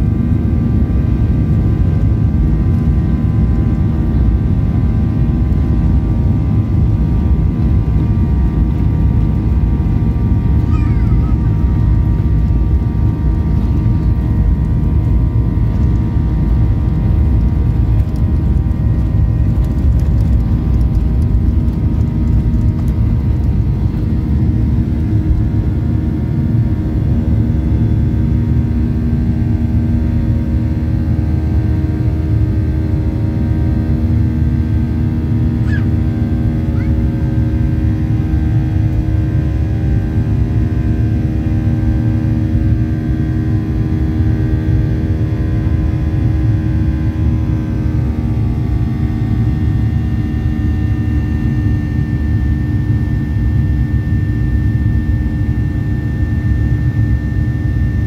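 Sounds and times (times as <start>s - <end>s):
jet engines roaring in cabin: 0.0s - 58.0s.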